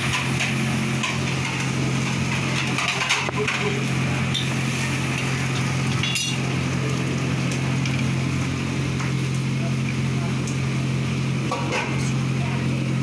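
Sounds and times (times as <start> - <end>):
constant low hum: 0.0 - 12.7
food sizzling in hot oil: 0.0 - 13.0.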